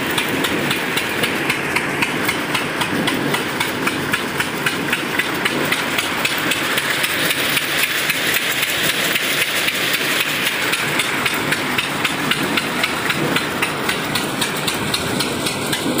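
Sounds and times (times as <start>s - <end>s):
engine knocking: 0.0s - 16.0s.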